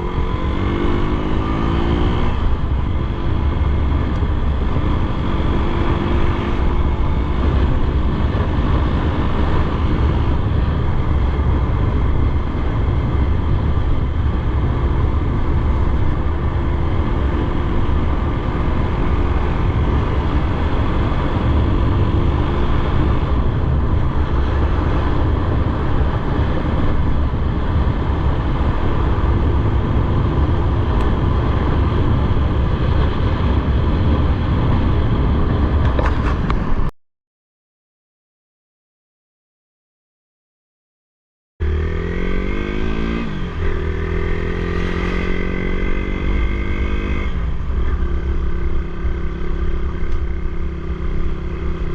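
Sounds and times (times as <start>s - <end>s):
motorcycle engine running: 0.0s - 36.9s, 41.6s - 51.9s
road and riding noise: 0.0s - 36.9s, 41.6s - 51.9s.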